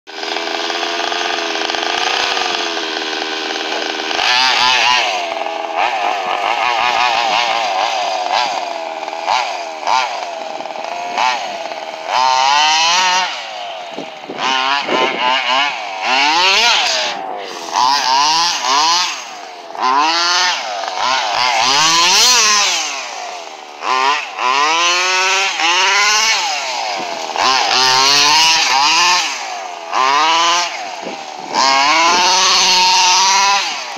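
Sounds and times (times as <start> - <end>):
toy truck motor revving: 0.1 - 33.9.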